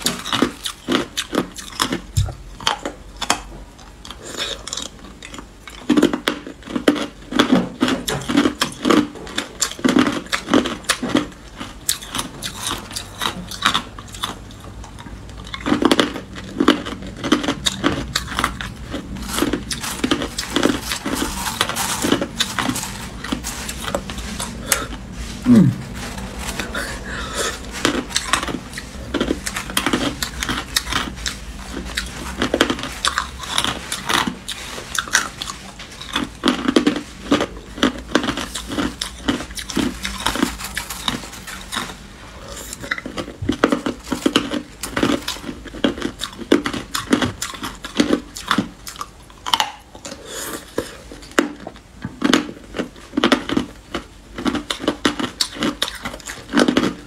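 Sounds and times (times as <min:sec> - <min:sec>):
ice crunching between teeth: 0:04.1 - 0:57.0.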